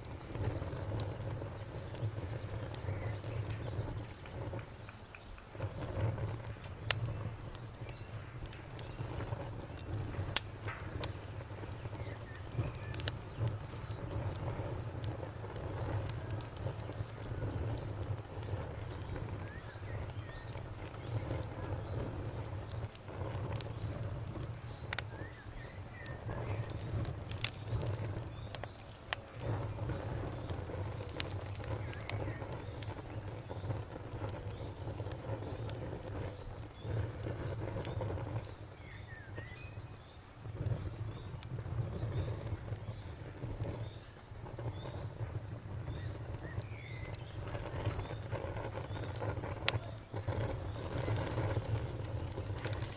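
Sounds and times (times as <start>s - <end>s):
cricket chirping: 0.0s - 52.9s
wood fire crackling and popping: 0.0s - 52.9s.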